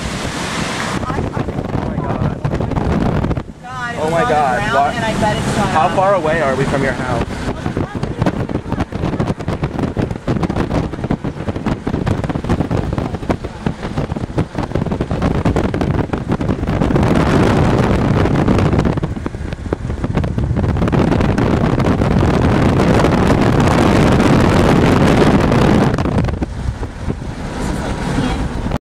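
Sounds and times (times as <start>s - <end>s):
wind buffeting microphone: 0.0s - 28.8s.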